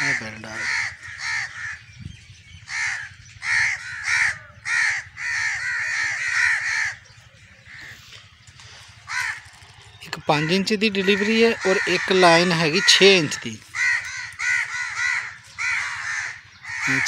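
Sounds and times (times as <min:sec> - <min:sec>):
crows cawing: 0:00.0 - 0:17.0.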